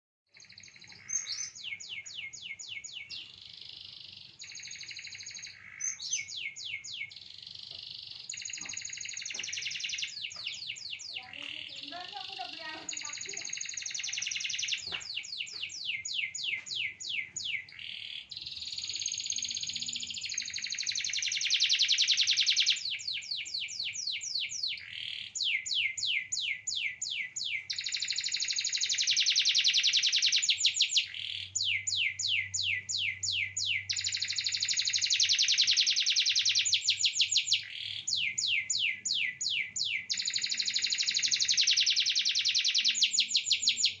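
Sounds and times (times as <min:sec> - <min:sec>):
canary singing: 0:00.4 - 0:44.0.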